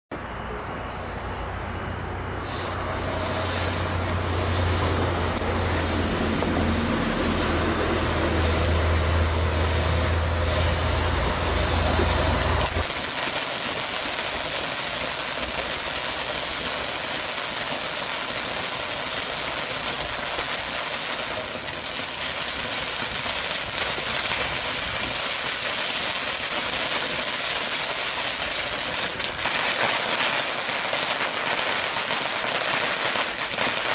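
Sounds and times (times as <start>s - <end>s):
firework fountain hissing: 2.3s - 33.9s.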